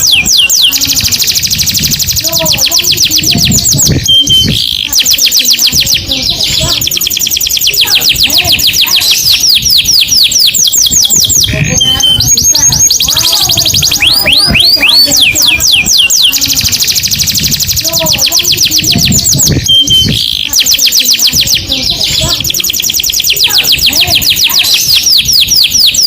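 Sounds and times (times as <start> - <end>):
canary trilling: 0.0 - 26.0.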